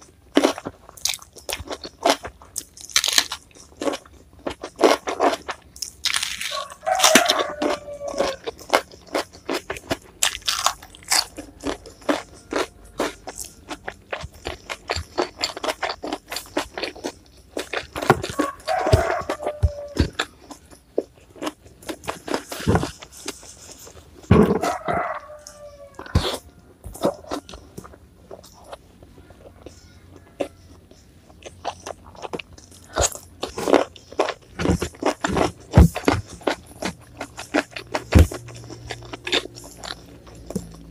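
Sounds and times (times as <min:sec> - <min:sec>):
chewing crunchy food: 0:00.0 - 0:40.9.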